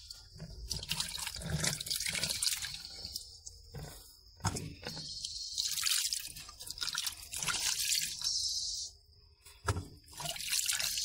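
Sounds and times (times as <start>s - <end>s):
water dripping: 0.0s - 8.6s, 10.0s - 11.0s.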